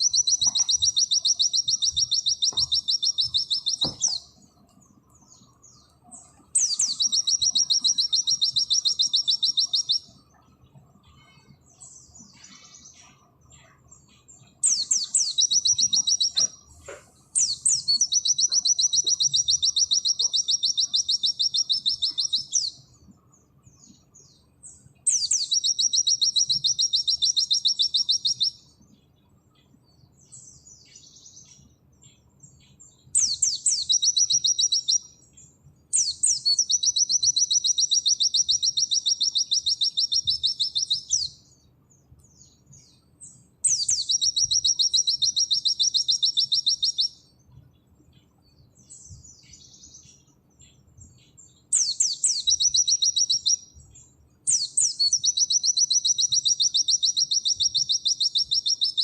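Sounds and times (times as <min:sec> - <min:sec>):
bird song rapid high notes: 0:00.0 - 0:59.0
soft bird chirps: 0:00.0 - 0:59.0.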